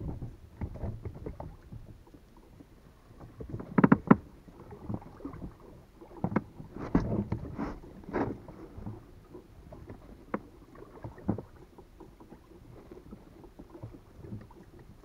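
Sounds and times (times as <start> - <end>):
knocks and bumps in boat: 0.0 - 2.2, 3.1 - 15.0.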